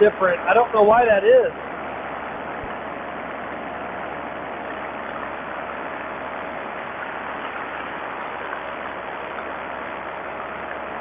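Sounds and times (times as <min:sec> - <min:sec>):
paramotor engine drone: 0:00.0 - 0:11.0.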